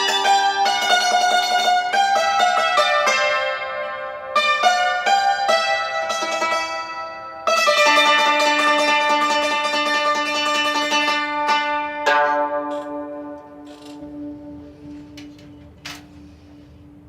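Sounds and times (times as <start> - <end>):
plucked string chords ringing: 0.0 - 15.8.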